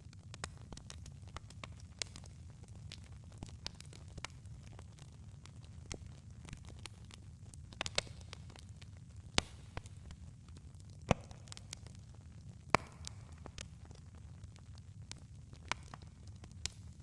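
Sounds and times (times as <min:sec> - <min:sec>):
campfire crackling and popping: 0:00.0 - 0:17.0
low rumble of fire: 0:00.0 - 0:17.0.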